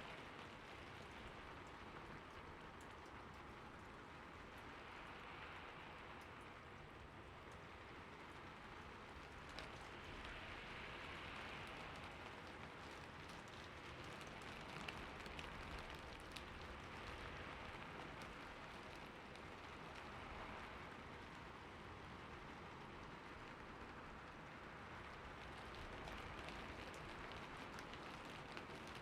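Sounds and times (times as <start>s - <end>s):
soft rainfall: 0.0s - 29.0s.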